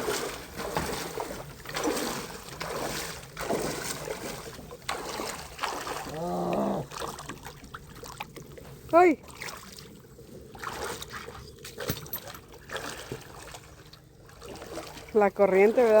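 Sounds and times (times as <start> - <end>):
kayak paddle splashing water: 0.0 - 16.0.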